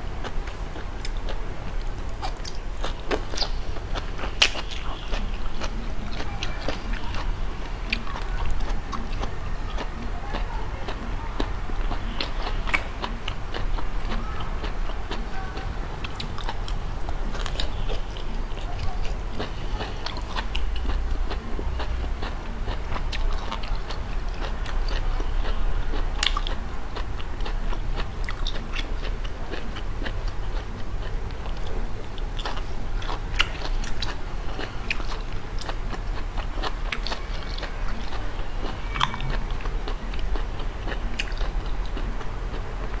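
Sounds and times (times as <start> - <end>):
person chewing and crunching food: 0.0 - 43.0
steady low hum: 0.0 - 43.0.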